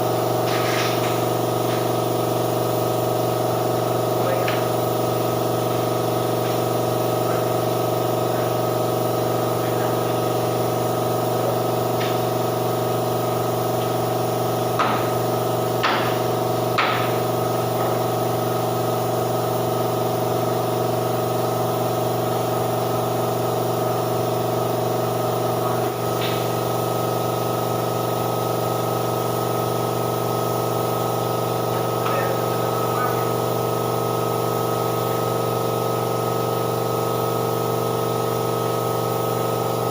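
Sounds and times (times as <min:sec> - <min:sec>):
air compressor humming and hissing: 0:00.0 - 0:39.9.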